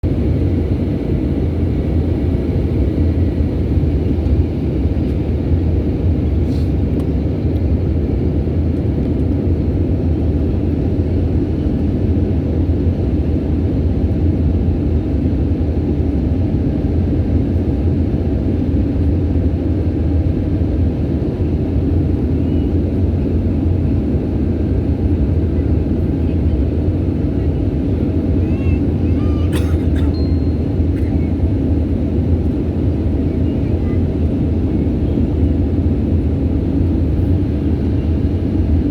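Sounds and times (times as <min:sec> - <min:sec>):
airliner engines rumbling: 0:00.0 - 0:38.9.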